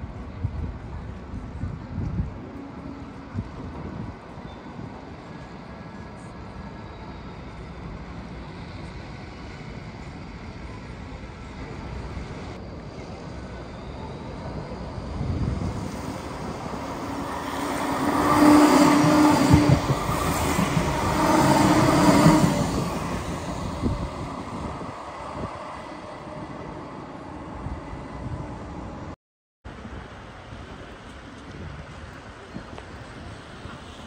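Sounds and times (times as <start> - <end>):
tram passing on rails: 0.0 - 34.0.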